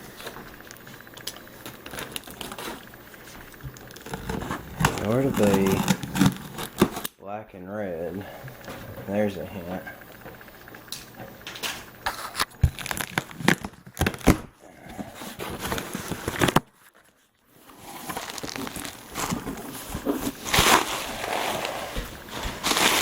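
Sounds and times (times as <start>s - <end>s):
packaging crinkling and rustling: 0.1s - 7.1s, 11.4s - 23.0s.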